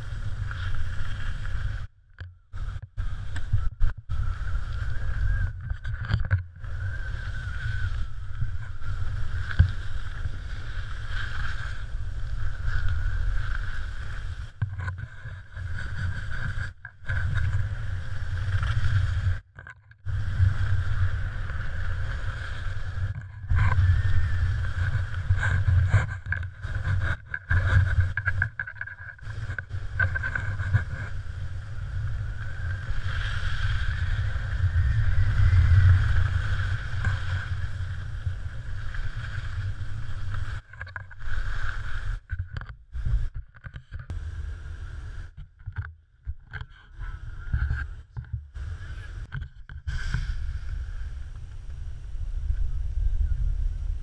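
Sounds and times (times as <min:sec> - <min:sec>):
wind rushing over camera: 0:00.0 - 0:54.0.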